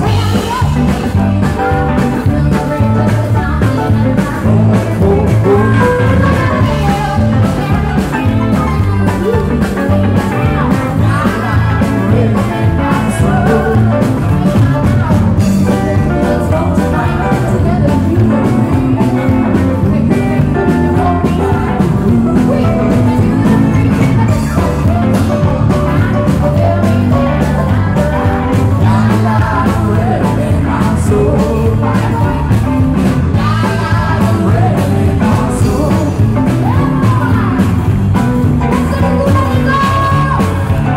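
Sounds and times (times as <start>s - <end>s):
woman singing into microphone: 0.0s - 32.6s, 33.3s - 38.0s, 38.6s - 40.9s
guitar: 0.0s - 40.9s
keyboard: 0.0s - 40.9s
steady drum beat: 0.0s - 40.9s.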